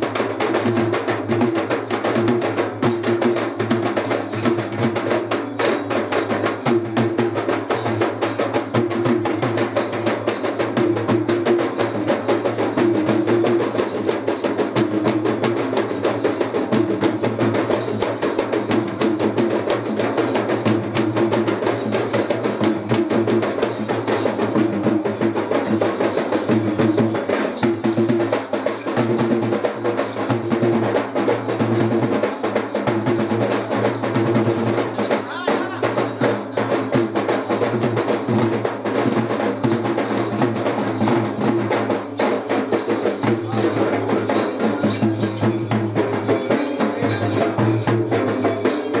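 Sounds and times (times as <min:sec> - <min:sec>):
hand drums playing fast: 0:00.0 - 0:49.0.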